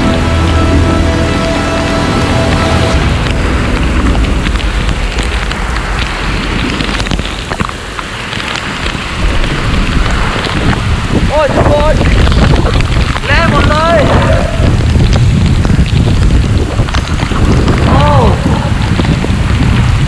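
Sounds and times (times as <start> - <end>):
heavy rain pouring: 0.0 - 20.0
sharp raindrop hits: 0.0 - 20.0.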